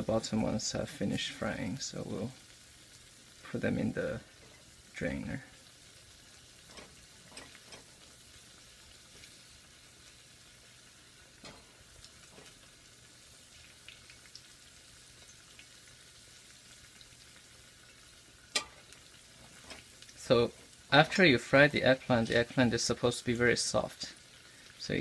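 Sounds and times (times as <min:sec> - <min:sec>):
eggplant sizzling in oil: 0:00.0 - 0:25.0.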